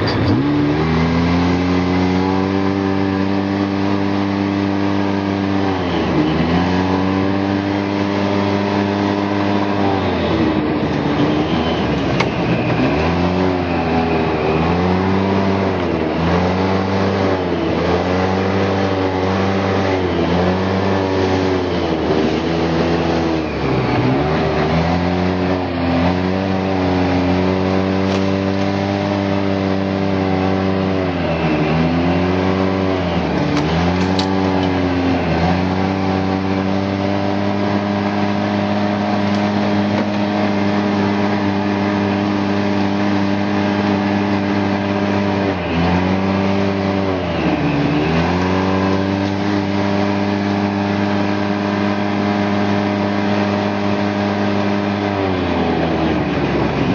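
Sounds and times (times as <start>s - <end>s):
car engine running hard: 0.0s - 56.9s
continuous rushing noise: 0.0s - 56.9s.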